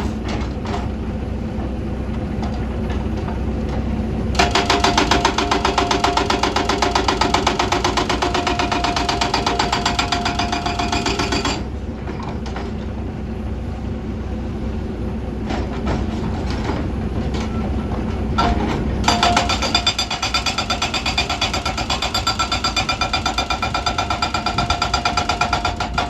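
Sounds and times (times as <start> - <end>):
excavator clattering and whining: 0.0 - 13.1, 15.2 - 26.0.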